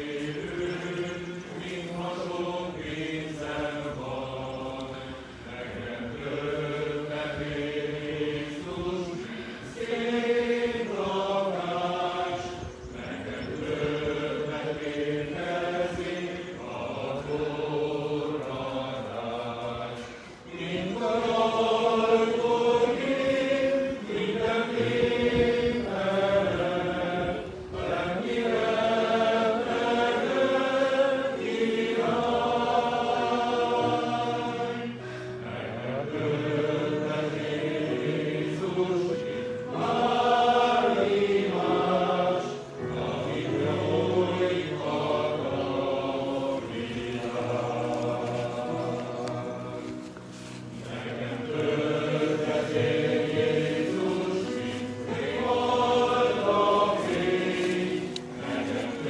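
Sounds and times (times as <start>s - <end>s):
group singing a slow hymn: 0.0s - 59.0s.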